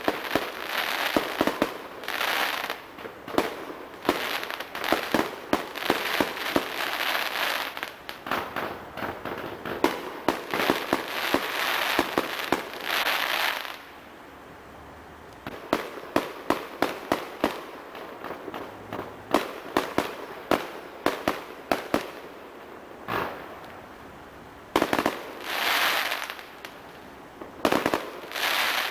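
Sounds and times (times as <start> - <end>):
fireworks bursting: 0.0 - 14.0, 15.3 - 24.0, 24.7 - 28.9.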